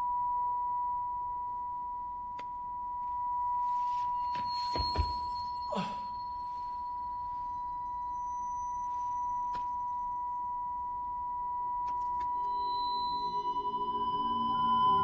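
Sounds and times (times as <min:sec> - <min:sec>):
high-pitched ringing tone: 0:00.0 - 0:15.0.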